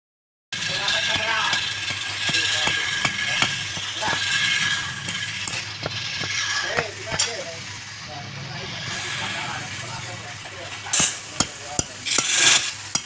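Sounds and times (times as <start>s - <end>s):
tool hissing and ticking on wood: 0.6s - 13.0s.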